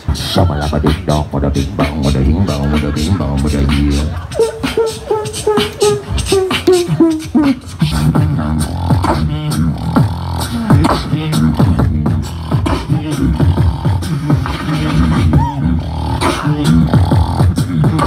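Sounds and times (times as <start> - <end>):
beatboxing through microphones: 0.0 - 18.0
low bass pattern: 0.3 - 18.0.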